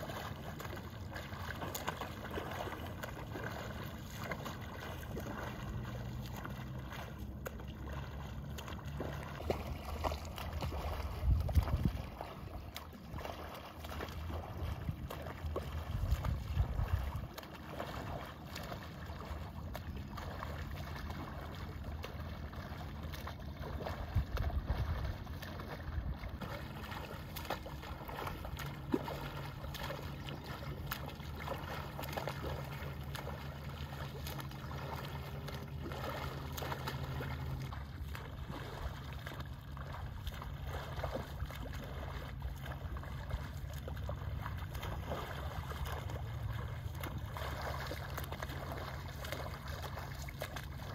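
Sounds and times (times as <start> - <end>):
steady low rumble: 0.0 - 50.9
water splashing from swim strokes: 0.0 - 50.9.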